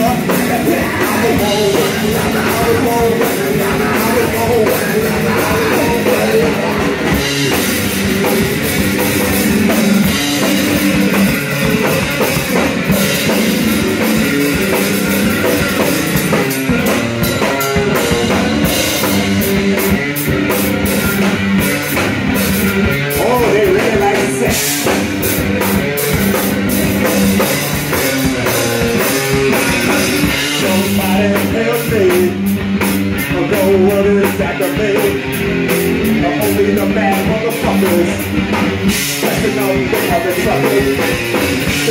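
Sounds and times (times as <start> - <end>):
drum kit: 0.0 - 41.9
electric bass: 0.0 - 41.9
punk rock band playing: 0.0 - 41.9.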